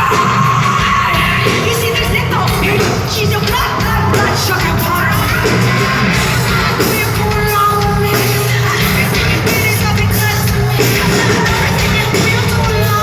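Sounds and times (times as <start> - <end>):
live heavy metal band: 0.0 - 13.0
person singing: 0.0 - 13.0.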